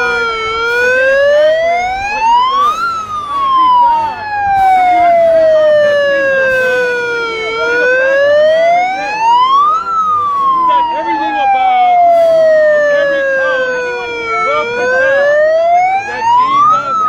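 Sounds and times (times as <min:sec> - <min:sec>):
faint crowd voices: 0:00.0 - 0:17.0
megaphone siren wailing: 0:00.0 - 0:17.0.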